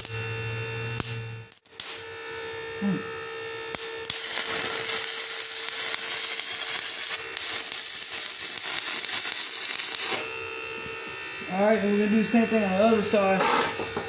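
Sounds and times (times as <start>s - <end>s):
steady hum: 0.0s - 14.0s
welding arc crackling: 0.0s - 14.0s.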